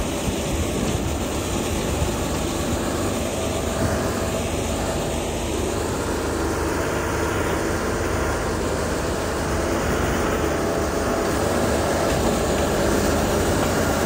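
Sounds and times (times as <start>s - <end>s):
heavy diesel machinery droning: 0.0s - 14.0s.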